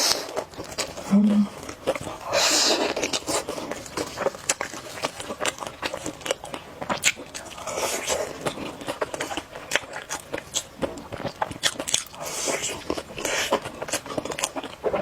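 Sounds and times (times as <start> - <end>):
chewing and crunching: 0.0 - 15.0.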